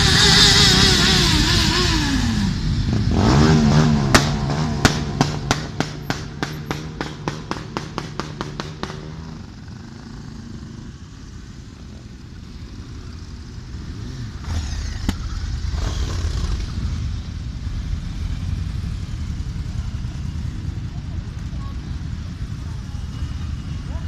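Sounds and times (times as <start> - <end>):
motorcycle engines rumbling: 0.0 - 24.0.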